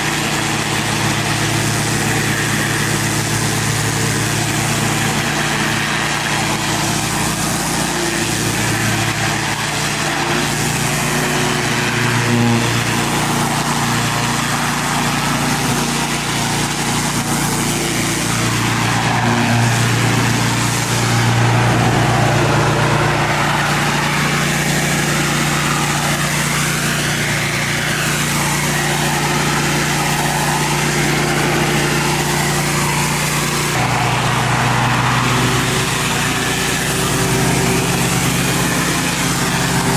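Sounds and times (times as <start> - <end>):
pressure washer engine humming: 0.0 - 39.9
water spray hissing on concrete: 0.0 - 39.9.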